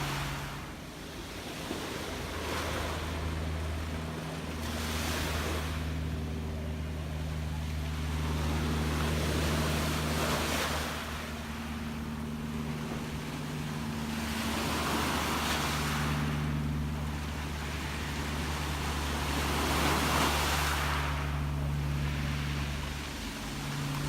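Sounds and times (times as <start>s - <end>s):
sea waves washing: 0.0s - 24.0s
steady low hum: 0.0s - 24.0s.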